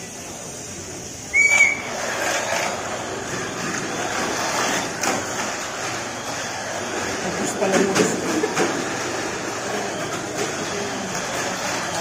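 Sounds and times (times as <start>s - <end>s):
toy cars rattling against track walls: 1.4s - 12.0s.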